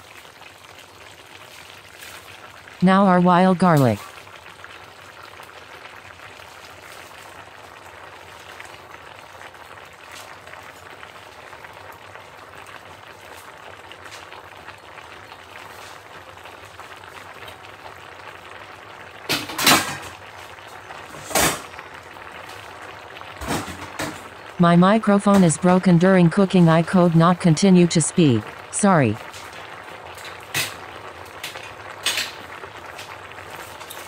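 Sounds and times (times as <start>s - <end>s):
stew simmering bubbling hiss: 0.0s - 34.0s.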